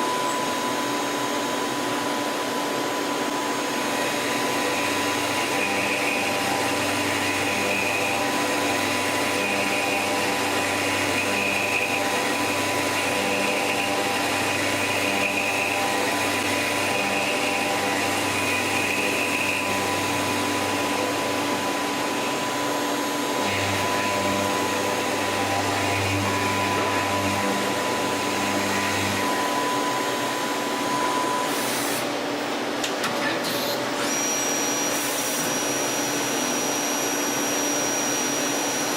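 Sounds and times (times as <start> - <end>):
lathe mechanical whir: 0.0 - 38.9.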